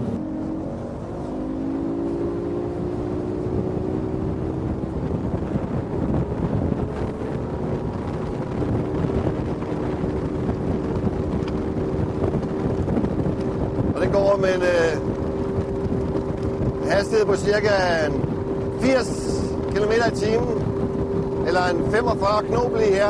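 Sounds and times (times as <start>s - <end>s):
outboard motor running hard: 0.0s - 23.0s
wind buffeting microphone: 0.0s - 23.0s.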